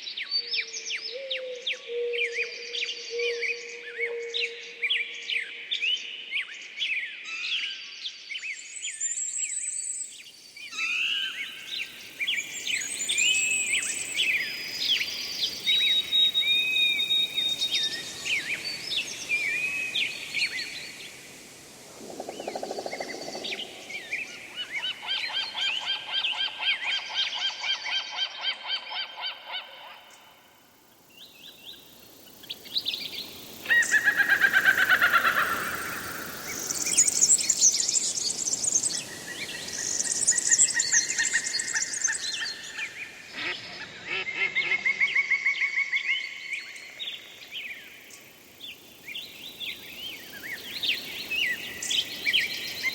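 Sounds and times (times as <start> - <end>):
wild birds singing and calling: 0.0 - 52.9.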